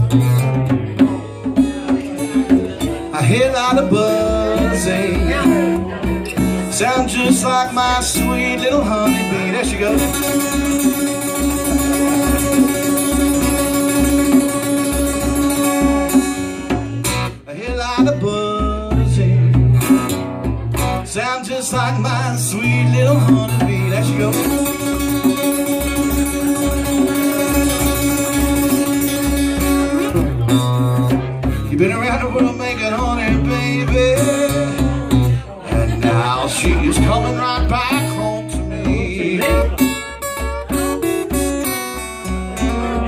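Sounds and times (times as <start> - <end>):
acoustic guitar strummed and picked: 0.0 - 43.0
hand drum thumping beat: 0.0 - 43.0
low bass notes: 0.0 - 43.0
man singing: 0.0 - 43.0.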